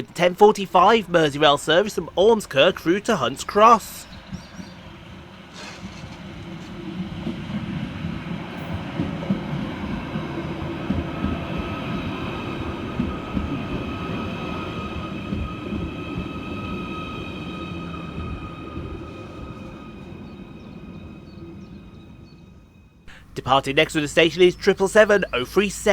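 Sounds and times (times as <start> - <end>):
electric train arriving: 0.0 - 25.9.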